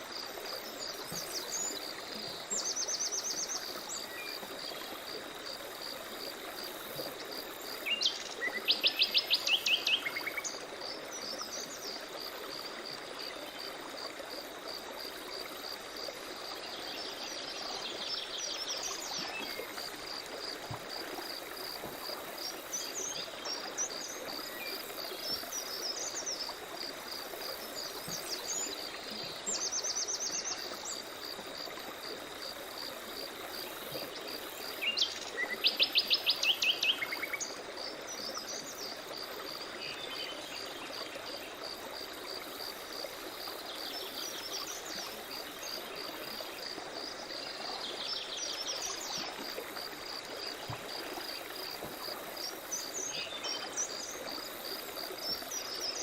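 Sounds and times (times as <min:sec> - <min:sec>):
insects chirping: 0:00.0 - 0:56.0
stream water running: 0:00.0 - 0:56.0.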